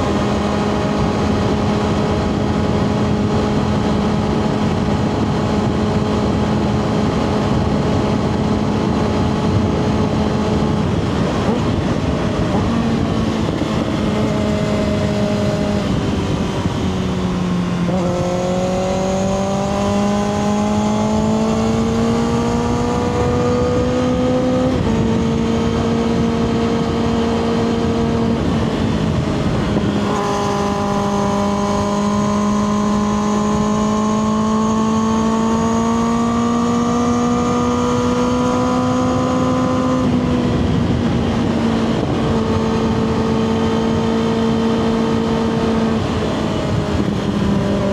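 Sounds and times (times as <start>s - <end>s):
motorcycle engine revving: 0.0s - 47.9s
road and wind noise: 0.0s - 47.9s.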